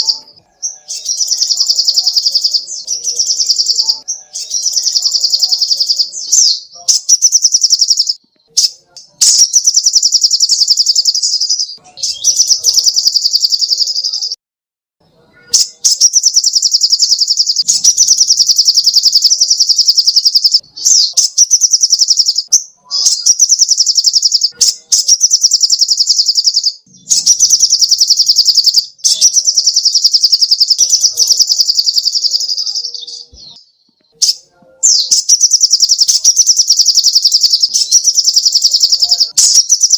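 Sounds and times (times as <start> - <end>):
bird singing fast trills: 0.0 - 14.4, 15.4 - 39.9.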